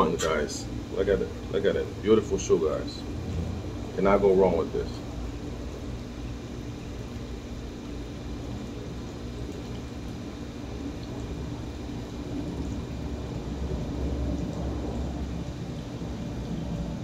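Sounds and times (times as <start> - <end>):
faint hum: 0.0 - 17.0
low background rumble: 0.0 - 17.0.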